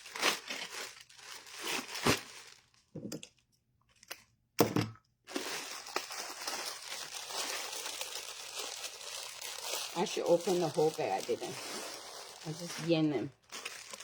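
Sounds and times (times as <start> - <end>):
plastic packaging crinkling: 0.0 - 2.9, 5.3 - 14.0.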